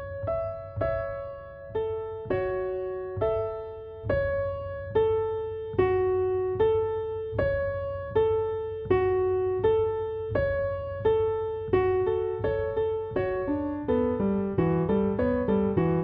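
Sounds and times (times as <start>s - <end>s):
slow solo piano notes: 0.0s - 16.0s.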